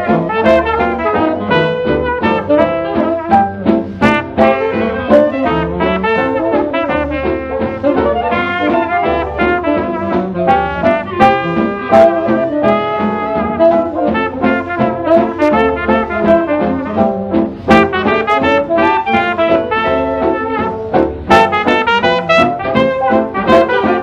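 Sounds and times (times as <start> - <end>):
jazz band with brass: 0.0 - 24.0.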